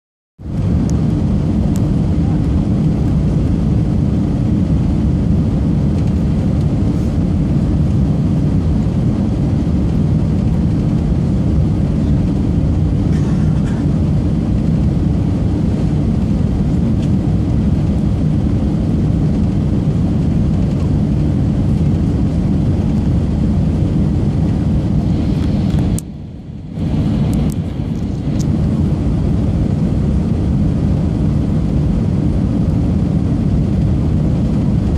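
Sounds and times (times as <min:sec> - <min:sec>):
airliner cabin engine rumble: 0:00.4 - 0:34.9.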